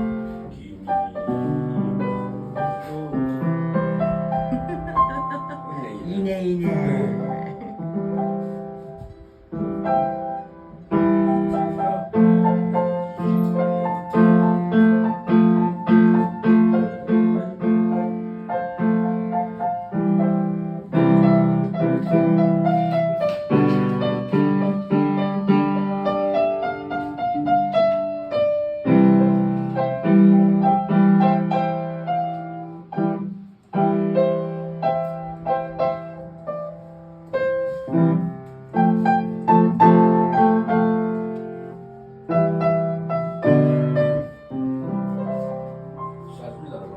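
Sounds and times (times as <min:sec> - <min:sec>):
piano playing: 0:00.0 - 0:46.9.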